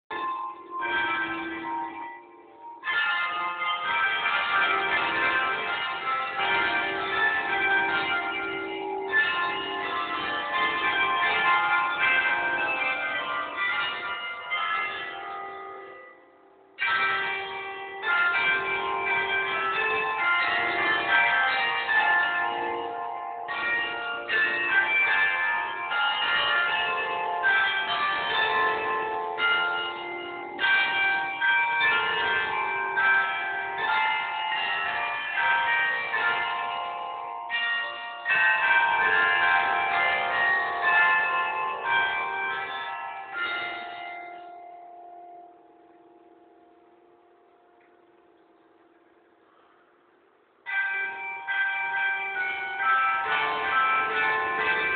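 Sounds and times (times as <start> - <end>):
church bells pealing: 0.1 - 54.9.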